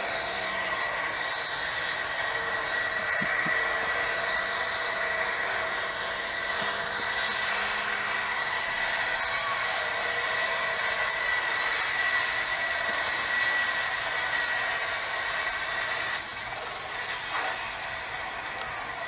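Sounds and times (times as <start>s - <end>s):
diesel tractor engine: 0.0s - 19.0s
turbo whine: 0.0s - 19.0s.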